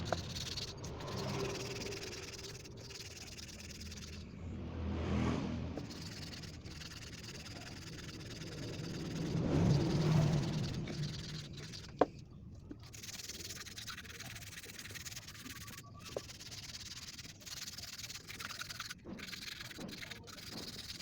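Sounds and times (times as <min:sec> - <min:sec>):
scrubbing engine piston: 0:00.0 - 0:04.5, 0:05.7 - 0:21.0.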